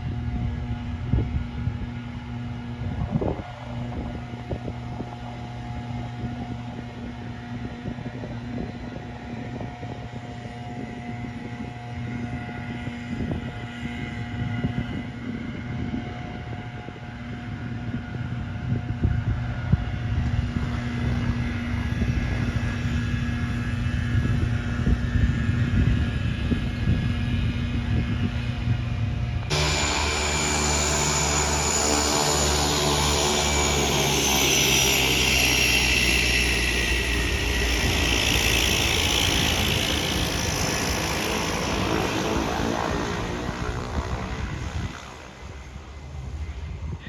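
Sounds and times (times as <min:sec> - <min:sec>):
turboprop engine drone: 0:00.0 - 0:47.0.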